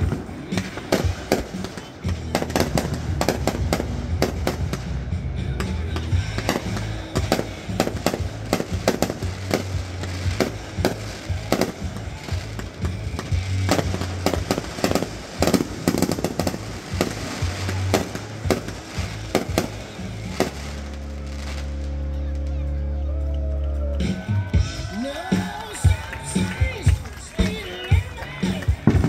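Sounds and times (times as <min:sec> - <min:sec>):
fireworks bangs and crackles: 0:00.0 - 0:22.8, 0:24.4 - 0:29.0
steady low tones: 0:00.0 - 0:25.0.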